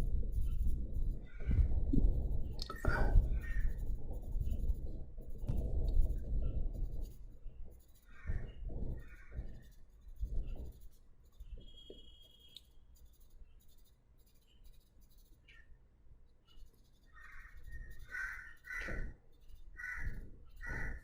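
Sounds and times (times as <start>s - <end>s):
pencil shading on paper: 0.0s - 21.0s.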